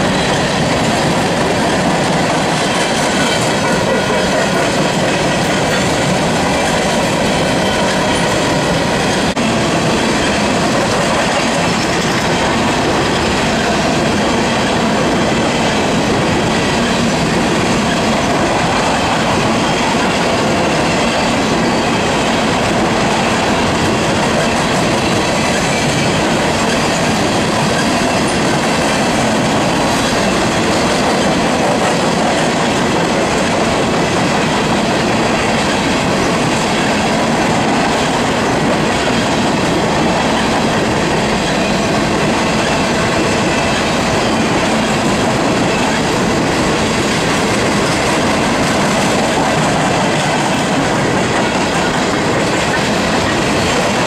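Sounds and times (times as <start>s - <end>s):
steel wheels on rails: 0.0s - 54.0s
train cars clattering: 0.0s - 54.0s.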